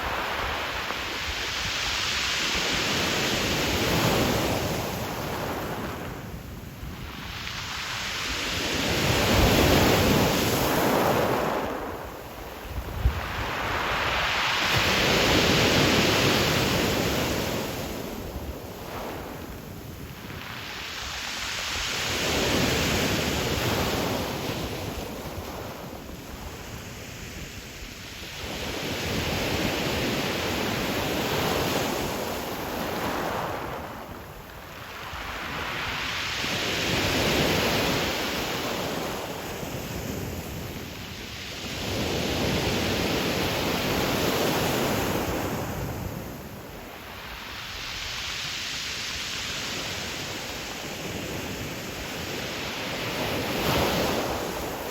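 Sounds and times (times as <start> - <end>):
waves breaking on pebble beach: 6.9 - 27.4, 28.2 - 54.9.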